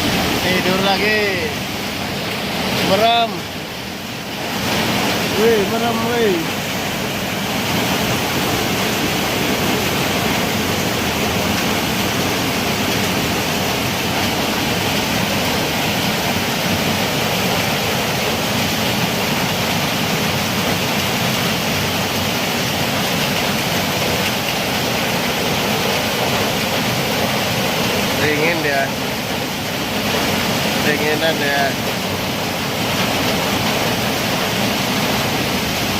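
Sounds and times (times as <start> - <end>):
heavy rain falling: 0.0 - 35.9.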